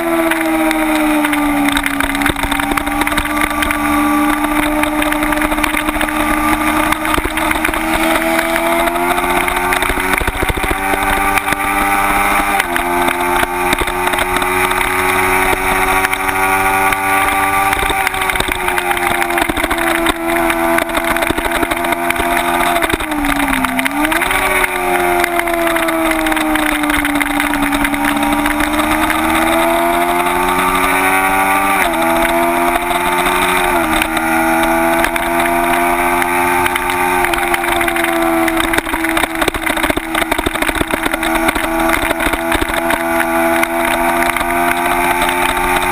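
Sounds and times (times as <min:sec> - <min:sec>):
motorcycle engine revving high: 0:00.0 - 0:45.9.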